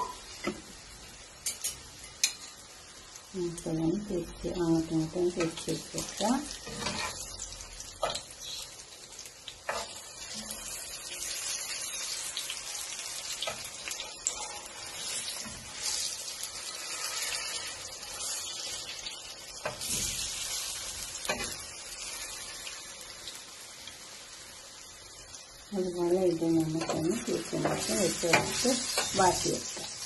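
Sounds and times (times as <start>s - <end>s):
plantains sizzling in hot oil: 0.0s - 30.0s.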